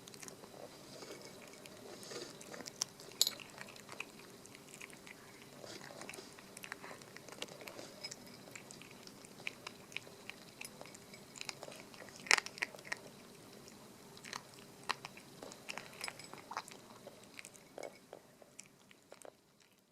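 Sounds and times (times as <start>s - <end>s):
puppy crunching dry kibble: 0.0s - 19.9s.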